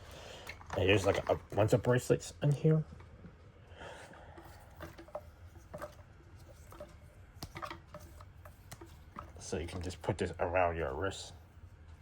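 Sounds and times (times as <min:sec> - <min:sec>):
light rustling of toys: 0:00.0 - 0:12.0.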